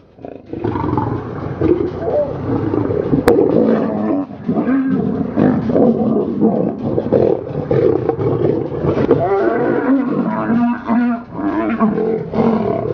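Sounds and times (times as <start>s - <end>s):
lions growling and roaring: 0.0s - 12.9s.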